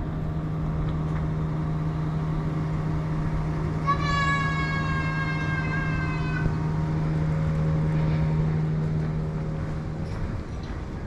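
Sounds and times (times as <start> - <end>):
traffic engine hum: 0.0 - 11.0.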